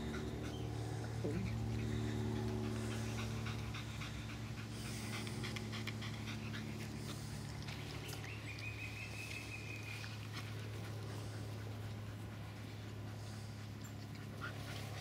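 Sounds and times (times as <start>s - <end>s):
dog panting fast: 0.0s - 7.6s, 10.1s - 15.0s
steady low hum: 0.0s - 15.0s.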